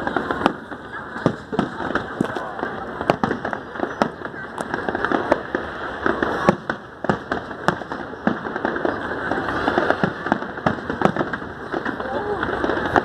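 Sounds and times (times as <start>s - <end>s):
continuous crackle: 0.0s - 13.0s
fireworks bangs: 0.0s - 13.0s.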